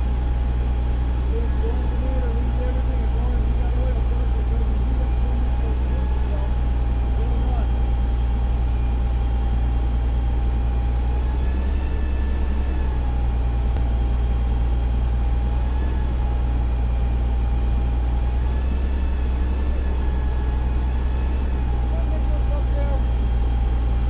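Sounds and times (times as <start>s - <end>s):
diesel engine humming: 0.0s - 24.0s
engine whine: 0.0s - 24.0s.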